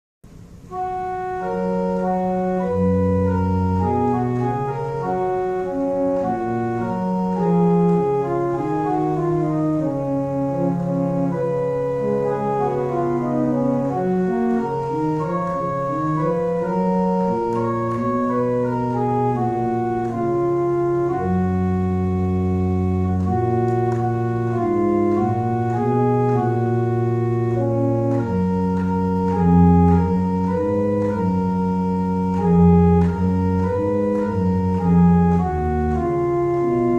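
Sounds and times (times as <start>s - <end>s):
pipe organ playing chords: 0.3s - 36.9s.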